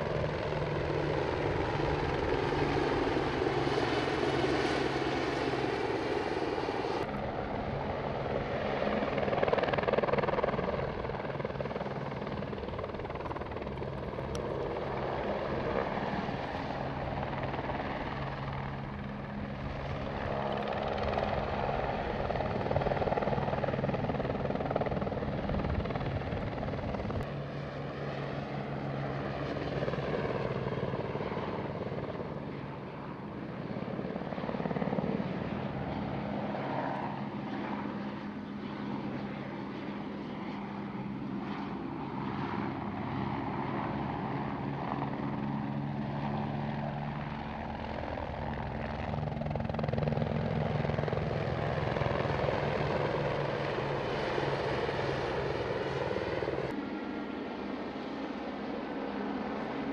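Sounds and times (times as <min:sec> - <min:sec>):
helicopters flying: 0:00.0 - 0:59.9.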